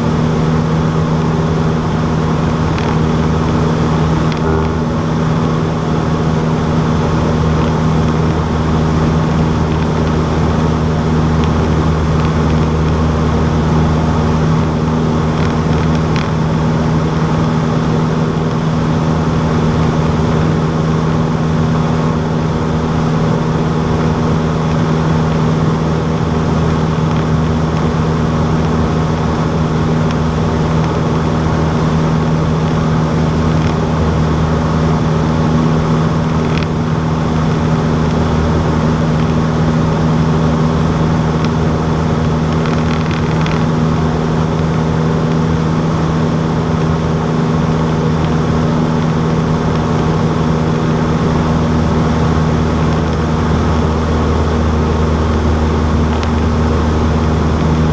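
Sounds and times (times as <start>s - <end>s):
aircraft engine and propeller drone: 0.0s - 57.9s.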